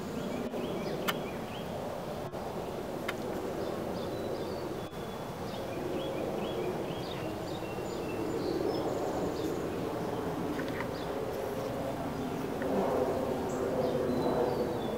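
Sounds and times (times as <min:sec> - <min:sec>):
honeybees humming: 0:00.0 - 0:14.9.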